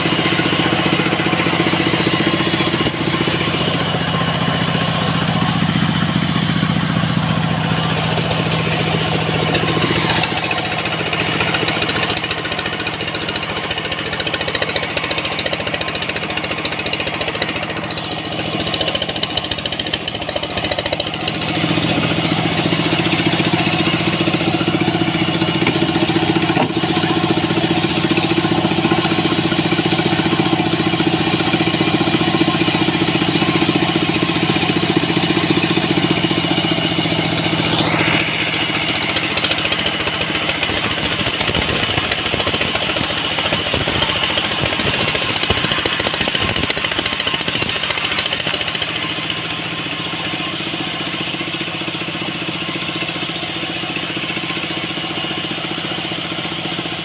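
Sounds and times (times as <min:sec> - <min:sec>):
engine-driven sawmill sawing log: 0:00.0 - 0:57.0.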